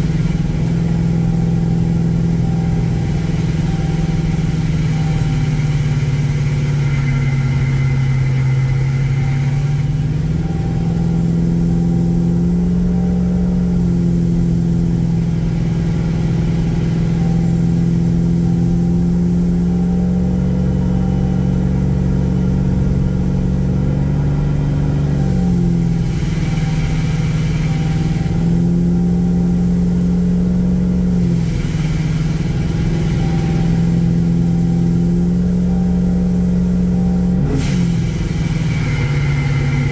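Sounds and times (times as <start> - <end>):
pickup engine drone: 0.0 - 39.9.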